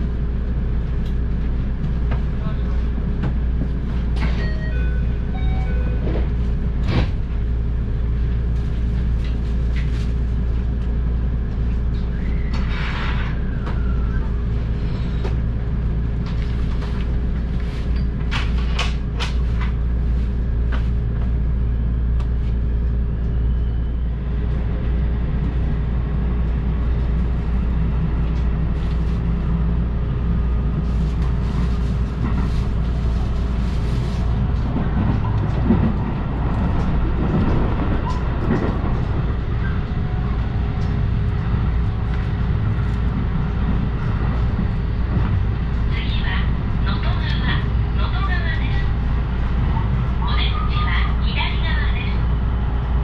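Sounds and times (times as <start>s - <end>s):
train interior rumble and hum: 0.0s - 53.0s.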